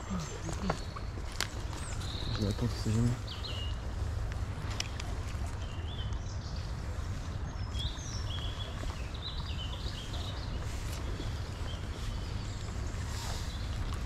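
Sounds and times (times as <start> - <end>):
small birds singing: 0.0 - 14.0
steady low rumble: 0.0 - 14.0.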